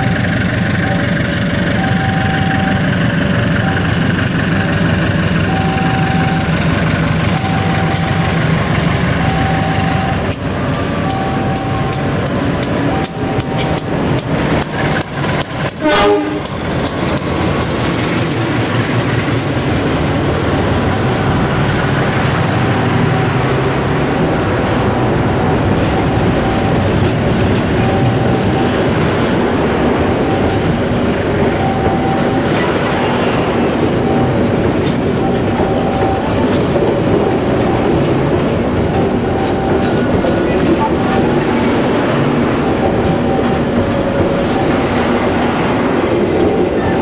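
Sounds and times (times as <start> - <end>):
diesel locomotive passing: 0.0 - 47.0
passenger coaches rumbling past: 0.0 - 47.0.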